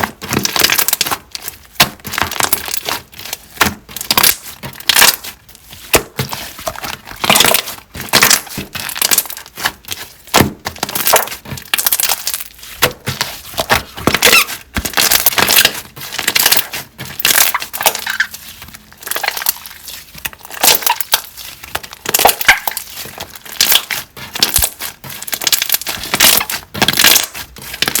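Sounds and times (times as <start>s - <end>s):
slime squishing by hand: 0.0s - 28.0s.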